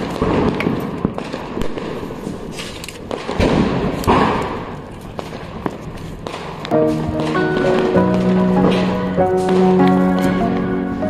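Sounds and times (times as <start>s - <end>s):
firecrackers going off: 0.0s - 11.0s.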